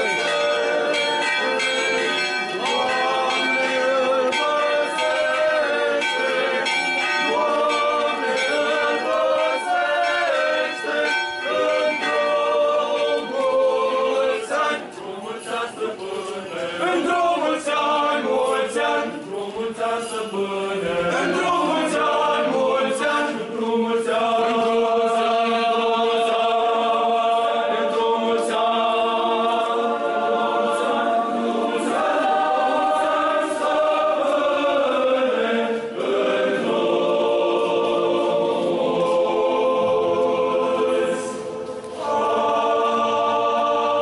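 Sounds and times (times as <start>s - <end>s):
choir chanting: 0.0s - 44.0s.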